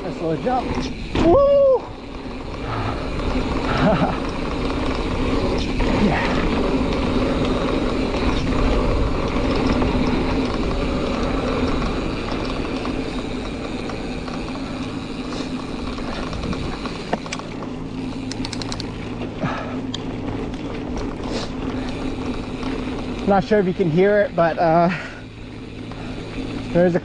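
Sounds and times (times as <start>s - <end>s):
bike tyres rumbling on dirt: 0.0s - 27.0s
suspension fork clicking: 0.0s - 27.0s.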